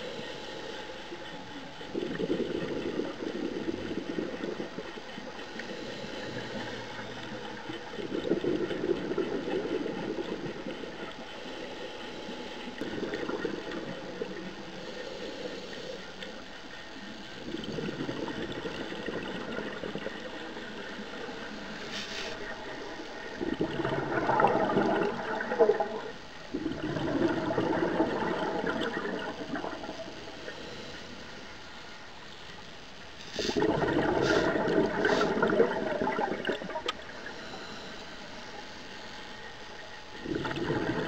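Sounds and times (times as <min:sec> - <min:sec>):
regulator bubbles gurgling underwater: 0:00.0 - 0:41.0
steady underwater hiss: 0:00.0 - 0:41.0.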